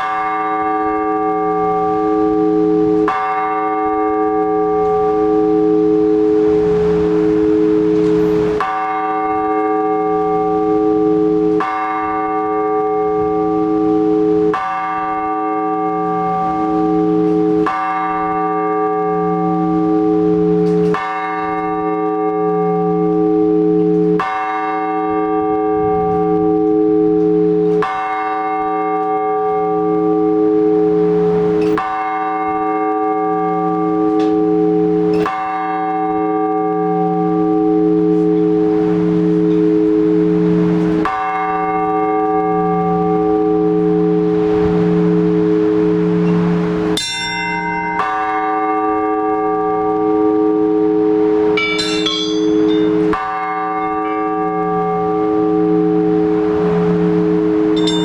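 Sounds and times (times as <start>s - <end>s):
large church bell strokes: 0.0s - 58.0s.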